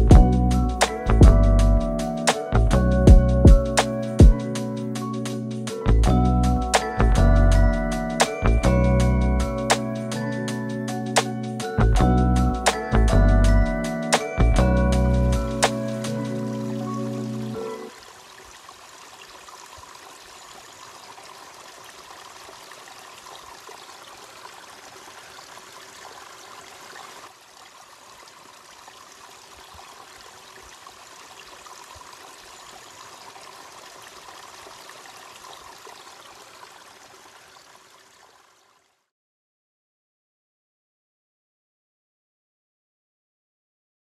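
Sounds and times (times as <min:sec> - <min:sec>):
stream trickling over rocks: 0:00.0 - 0:39.1.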